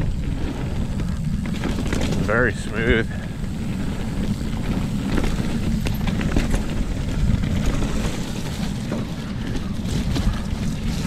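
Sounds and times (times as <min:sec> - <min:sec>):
bike clicks and rattles: 0:00.0 - 0:11.0
tyres rumbling over dirt: 0:00.0 - 0:11.0
wind buffeting microphone: 0:00.0 - 0:11.0.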